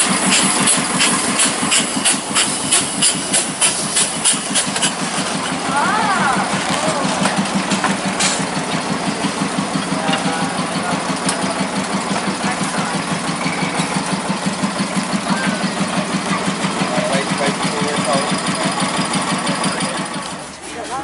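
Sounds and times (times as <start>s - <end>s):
small locomotive engine running: 0.0s - 21.0s.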